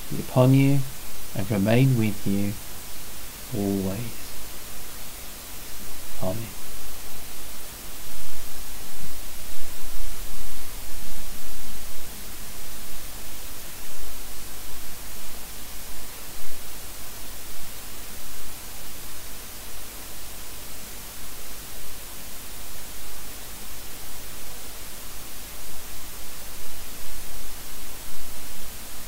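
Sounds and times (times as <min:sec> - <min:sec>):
recording static hiss: 0:00.0 - 0:29.0.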